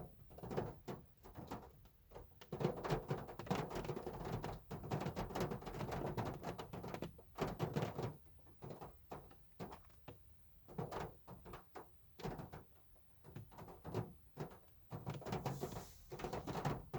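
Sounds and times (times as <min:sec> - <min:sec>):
rain tapping on a car: 0:00.3 - 0:16.9.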